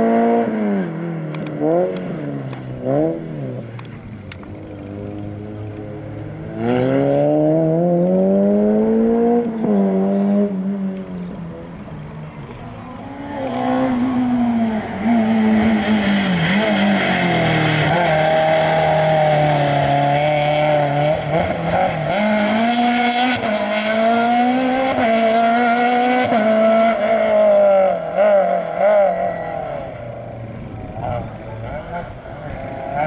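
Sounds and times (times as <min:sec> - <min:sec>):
car engine revving hard: 0:00.0 - 0:33.0.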